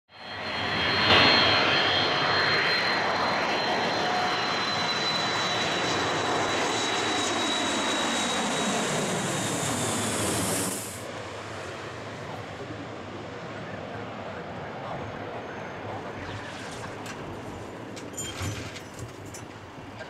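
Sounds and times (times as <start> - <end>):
jet aircraft roar passing overhead: 0.1 - 20.0.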